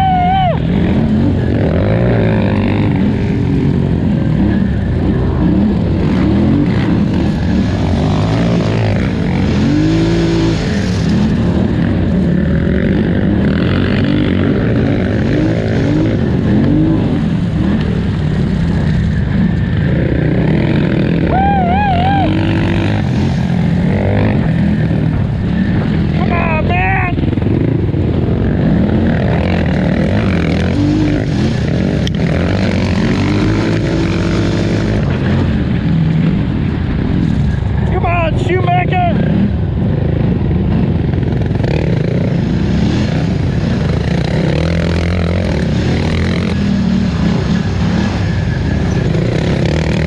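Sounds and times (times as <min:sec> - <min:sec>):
atv engine revving: 0:00.0 - 0:50.0.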